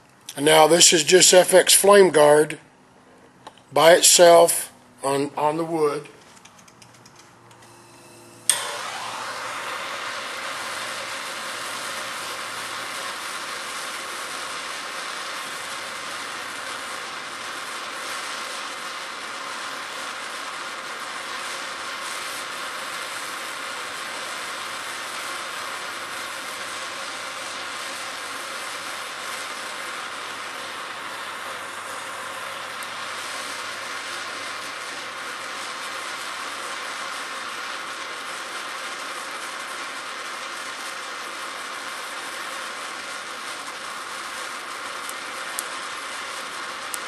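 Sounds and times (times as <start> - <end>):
gas torch hissing: 0.0 - 2.6, 3.5 - 6.0, 7.6 - 47.0
gas torch igniting pop: 8.4 - 47.0.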